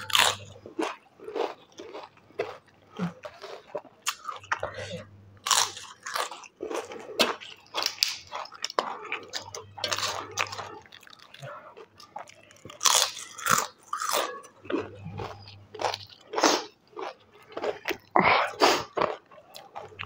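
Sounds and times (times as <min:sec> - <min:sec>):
person chewing crisp food: 0:00.0 - 0:20.0.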